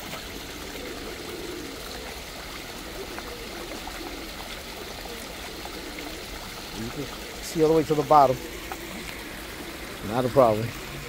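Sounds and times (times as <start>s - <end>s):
water trickling into pond: 0.0s - 11.0s.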